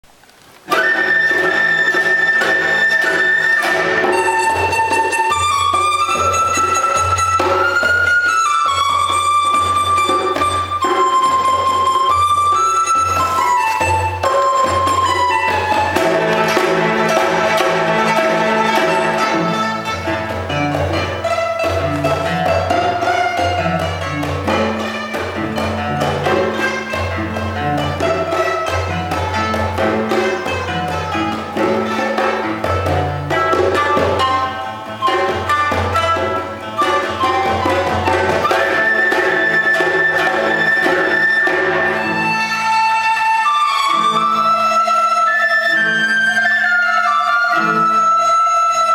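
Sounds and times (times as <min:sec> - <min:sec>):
folk dance ensemble music: 0:00.0 - 0:48.9
plucked or struck strokes: 0:00.6 - 0:48.9
low cello notes: 0:00.7 - 0:48.9.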